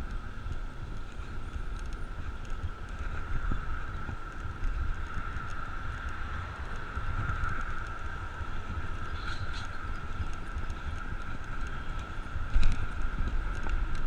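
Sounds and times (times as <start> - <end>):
bicycle road noise: 0.0 - 14.0
wind buffeting microphone: 0.0 - 14.0.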